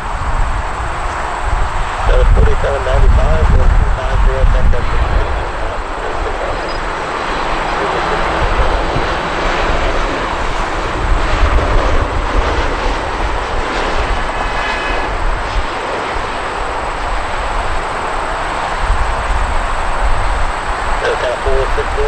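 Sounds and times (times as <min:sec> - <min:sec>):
faint high whine: 0:00.0 - 0:11.4, 0:13.1 - 0:22.0
jet engines running: 0:00.0 - 0:22.0.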